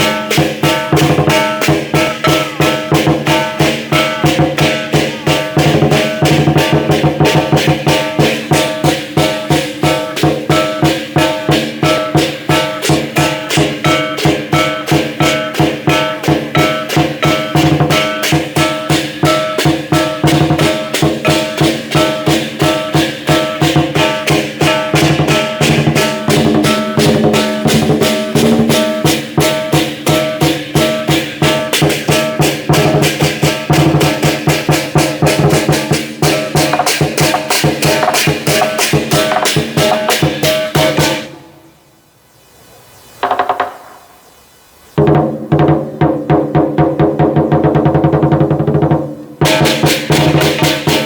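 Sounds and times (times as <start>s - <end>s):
drum beating fast: 0.0s - 41.4s, 43.2s - 44.0s, 45.0s - 51.0s
clashing cymbals: 0.0s - 41.6s, 49.4s - 51.0s.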